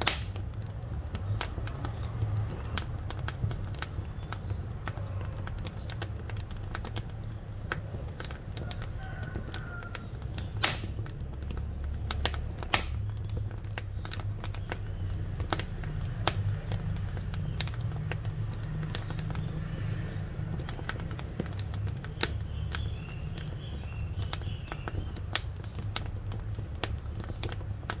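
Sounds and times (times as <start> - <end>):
firewood crackling and popping: 0.0 - 28.0
low fire rumble: 0.0 - 28.0.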